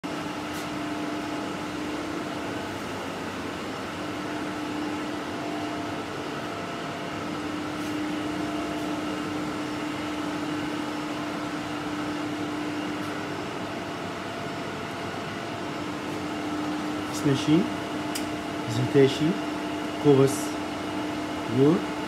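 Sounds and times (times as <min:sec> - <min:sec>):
analyzer machine humming: 0:00.0 - 0:22.0.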